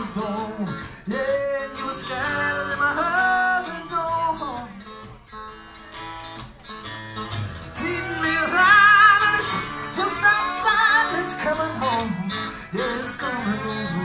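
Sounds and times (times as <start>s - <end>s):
bending lead guitar line: 0.0s - 14.0s
rock band playing live: 0.0s - 14.0s.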